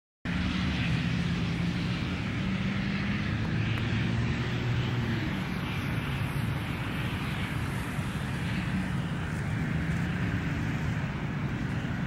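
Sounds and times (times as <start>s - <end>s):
diesel locomotive engine drone: 0.3s - 12.0s.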